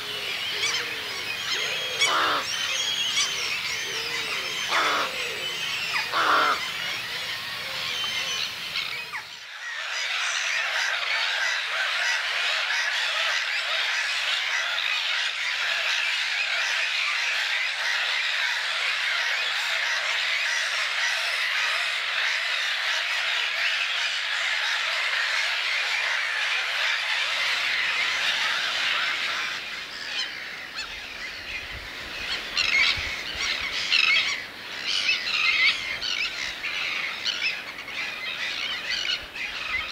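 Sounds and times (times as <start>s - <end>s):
flock of birds calling: 0.0s - 39.9s.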